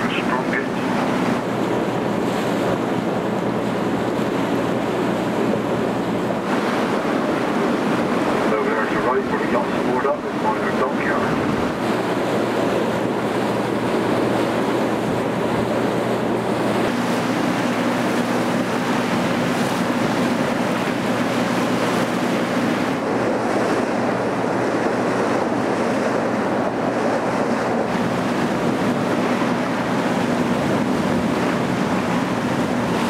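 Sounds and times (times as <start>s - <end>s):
boat engine droning: 0.0s - 33.0s
water rushing past hull: 0.0s - 33.0s
wind on microphone: 0.0s - 33.0s.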